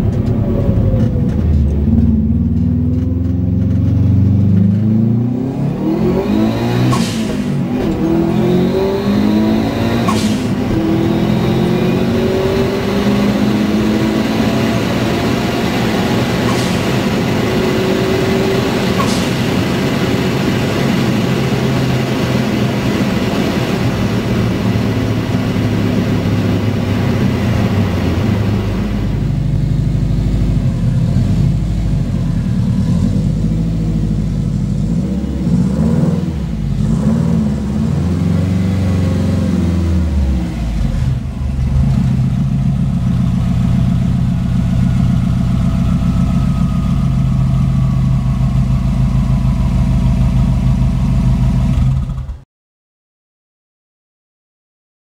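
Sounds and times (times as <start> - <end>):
car engine running inside cabin: 0.0 - 52.2
engine revving and idling: 0.0 - 52.4.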